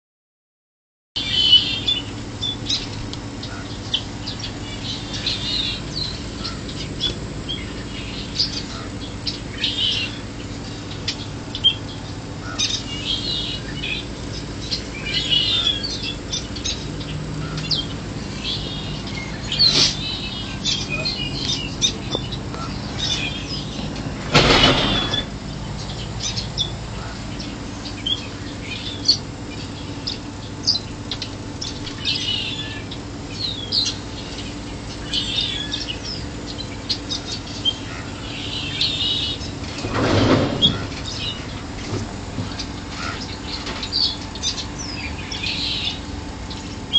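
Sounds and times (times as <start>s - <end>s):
small birds chirping: 1.2s - 46.9s
steady low hum: 1.2s - 46.9s.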